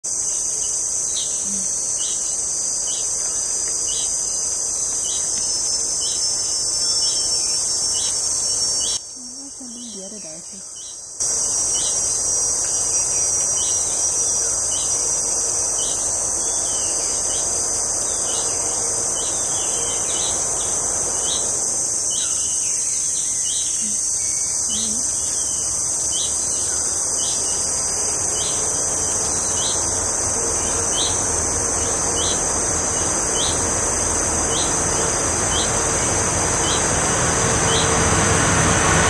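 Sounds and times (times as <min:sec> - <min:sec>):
high-pitched insect drone: 0:00.1 - 0:39.0.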